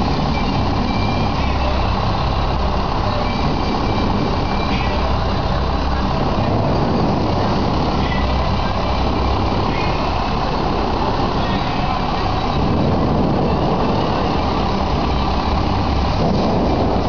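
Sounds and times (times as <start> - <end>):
moving vehicle rumble and hiss: 0.0 - 17.0.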